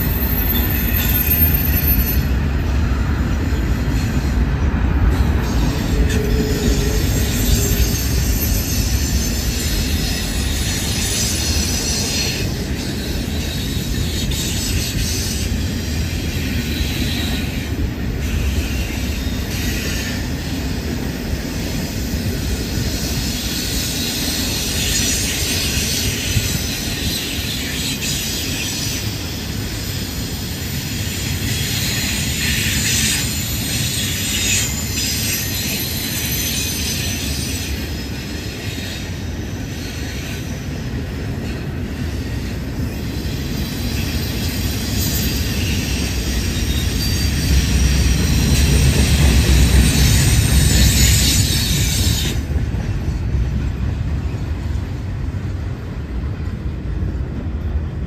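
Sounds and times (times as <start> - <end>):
high wheel squeal: 0.0 - 53.7
steel wheels rumbling on rails: 0.0 - 58.0.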